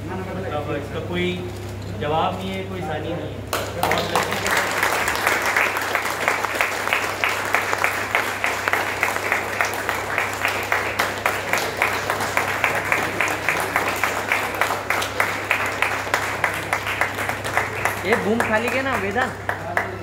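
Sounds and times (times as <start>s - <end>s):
people applauding: 3.5s - 20.0s.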